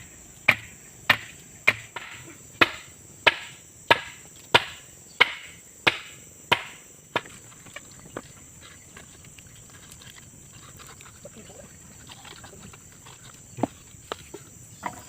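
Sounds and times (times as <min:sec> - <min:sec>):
high insect buzz: 0:00.0 - 0:15.0.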